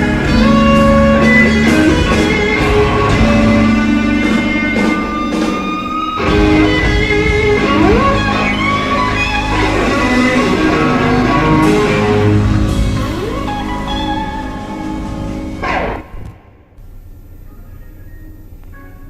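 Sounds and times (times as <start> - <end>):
band playing: 0.0 - 16.5
electric blues rock guitar: 0.0 - 16.5.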